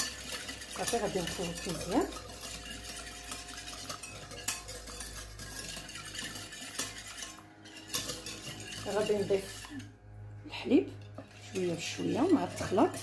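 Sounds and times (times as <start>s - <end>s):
wire whisk beating eggs in bowl: 0.0s - 9.9s, 10.6s - 13.0s.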